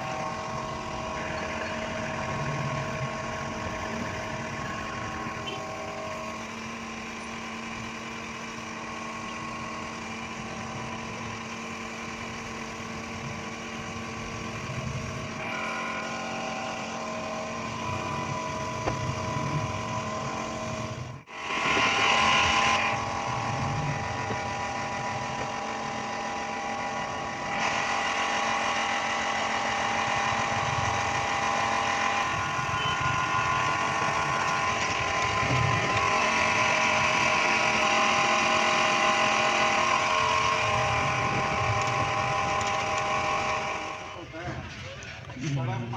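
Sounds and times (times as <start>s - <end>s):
machine hum: 0.0s - 45.9s.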